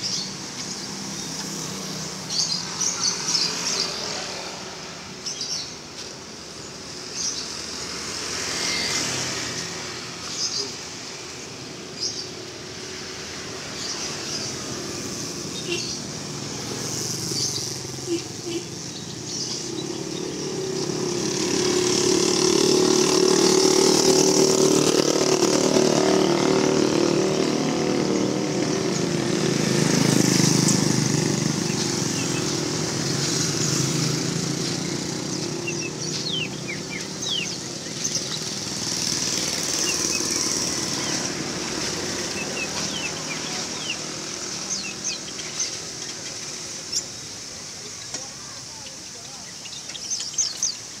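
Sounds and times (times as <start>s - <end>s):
caged birds chirping: 0.0s - 51.0s.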